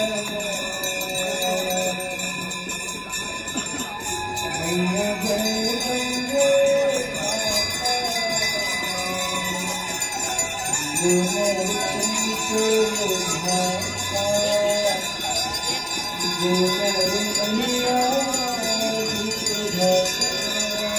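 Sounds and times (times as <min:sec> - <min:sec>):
person singing a hymn: 0:00.0 - 0:02.7, 0:04.4 - 0:20.9
temple bells ringing: 0:00.0 - 0:20.9.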